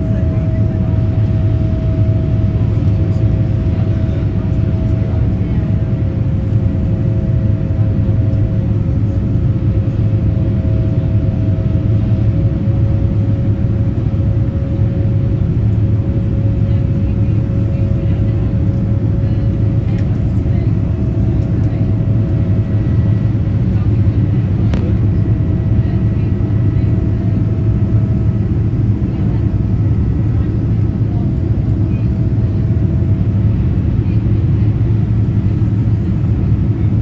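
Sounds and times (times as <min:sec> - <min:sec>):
deep cabin rumble: 0:00.0 - 0:37.0
high jet engine whine: 0:00.0 - 0:37.0.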